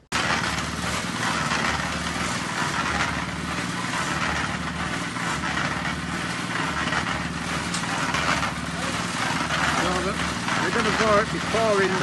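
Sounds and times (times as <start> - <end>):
cement mixer running: 0.0 - 12.0.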